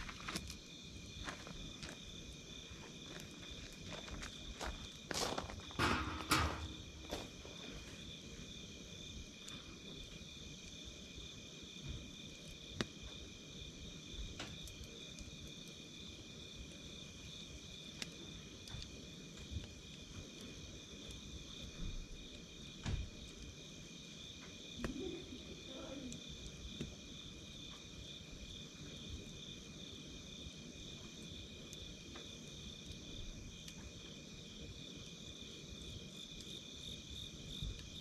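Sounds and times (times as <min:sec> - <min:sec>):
campfire popping and crackling: 0:00.0 - 0:38.0
crickets calling: 0:00.0 - 0:38.0.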